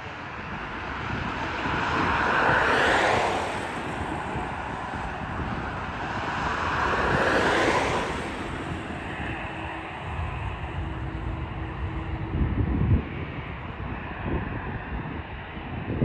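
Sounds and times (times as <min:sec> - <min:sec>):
vehicles passing: 0:00.0 - 0:15.8.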